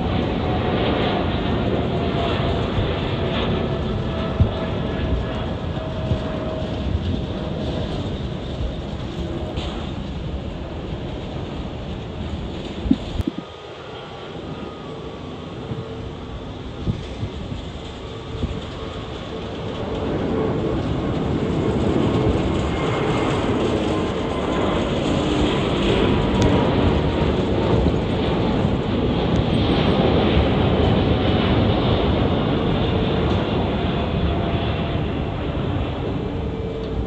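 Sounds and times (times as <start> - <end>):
jet engines roaring at take-off: 0.0 - 37.0.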